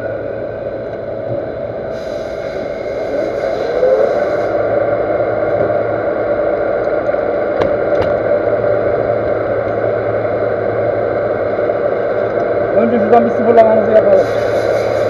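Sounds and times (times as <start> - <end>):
metal lathe humming and whining: 0.0 - 15.0.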